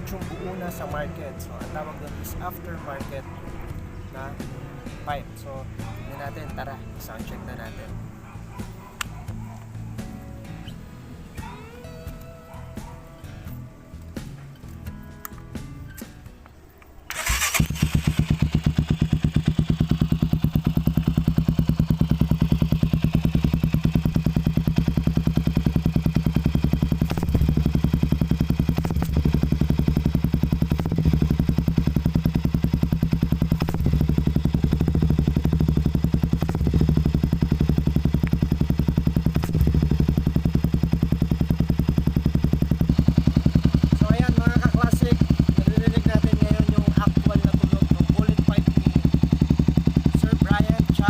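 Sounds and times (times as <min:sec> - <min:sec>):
motorcycle idling: 0:00.0 - 0:14.9, 0:16.5 - 0:51.0.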